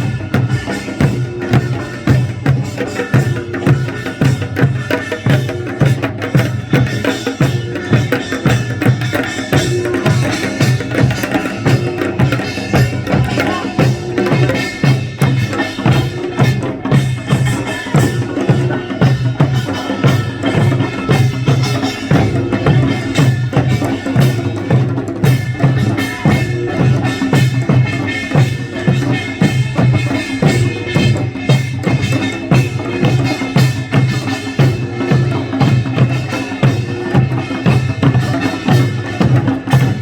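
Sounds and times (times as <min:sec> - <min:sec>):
folk percussion fast beat: 0:00.0 - 0:40.0.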